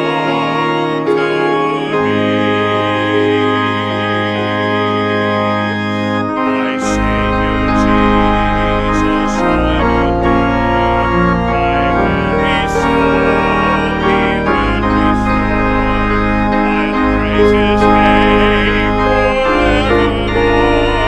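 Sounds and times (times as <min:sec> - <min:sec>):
church organ playing hymn: 0:00.0 - 0:21.0
congregation singing: 0:00.0 - 0:21.0.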